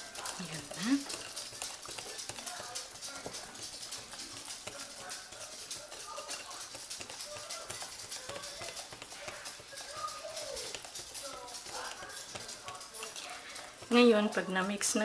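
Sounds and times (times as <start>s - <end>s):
whisk clicking against glass bowl: 0.0s - 15.0s.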